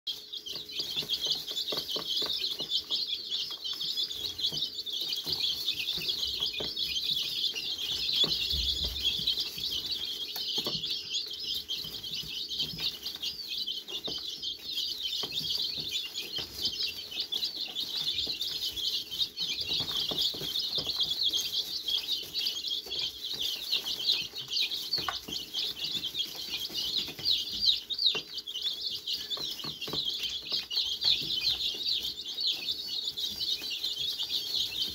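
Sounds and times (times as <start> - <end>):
chicks peeping: 0.1 - 34.9
beaks pecking plastic feeder: 0.2 - 34.9.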